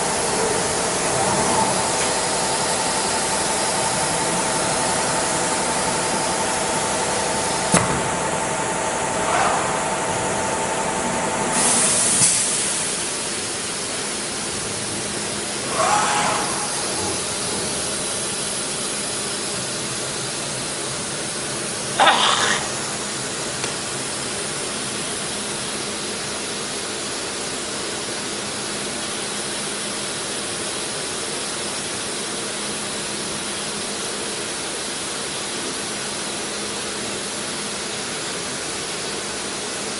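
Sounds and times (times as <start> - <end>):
cnc router machine hiss: 0.0 - 39.9.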